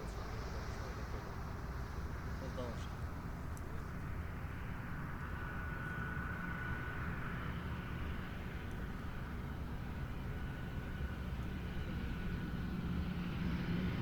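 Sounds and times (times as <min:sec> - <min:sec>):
high jet engine whine: 0:00.0 - 0:14.0.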